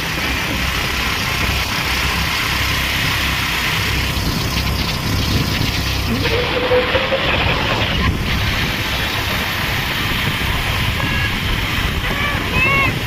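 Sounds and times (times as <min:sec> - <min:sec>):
motorcycle engines and road noise: 0:00.0 - 0:13.0.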